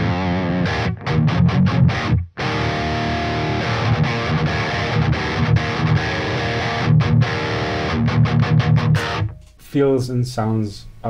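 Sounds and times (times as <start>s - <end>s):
distorted electric guitar: 0.0s - 9.6s.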